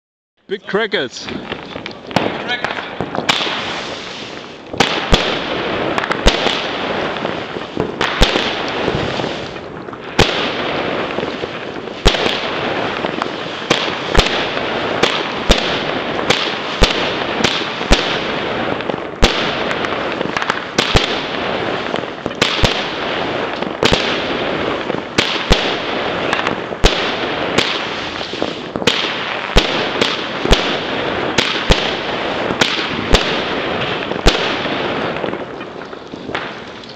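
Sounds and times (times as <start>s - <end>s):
firework crackling: 0.5s - 36.9s
firework bangs: 0.7s - 36.9s.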